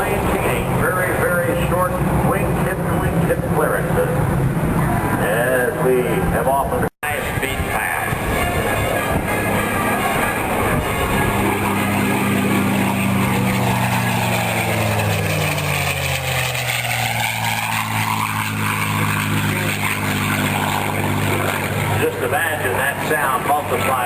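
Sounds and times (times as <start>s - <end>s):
propeller planes passing: 0.0s - 24.0s.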